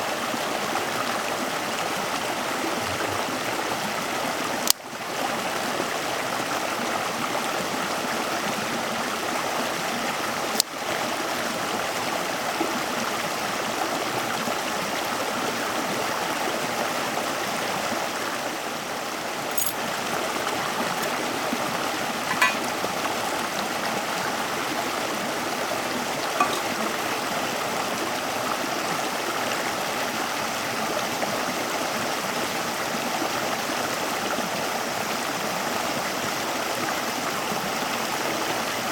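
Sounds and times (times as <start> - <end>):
flowing water rushing: 0.0 - 38.8.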